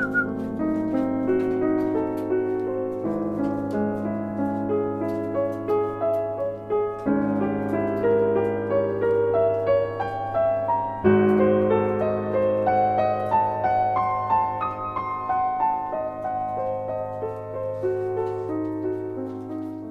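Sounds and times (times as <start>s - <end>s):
loud piano chord: 0.0s - 19.9s
slow piano melody: 0.0s - 19.9s.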